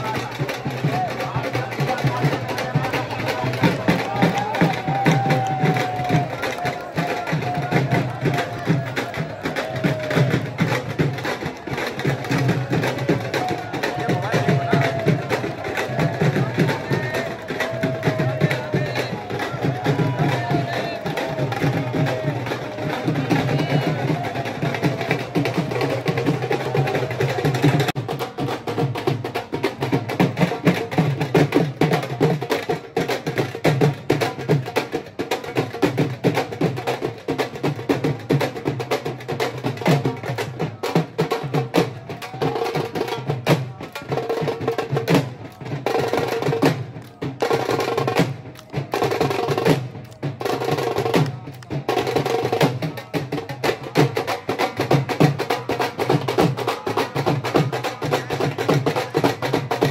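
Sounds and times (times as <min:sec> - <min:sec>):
fast hand drumming: 0:00.0 - 0:59.9.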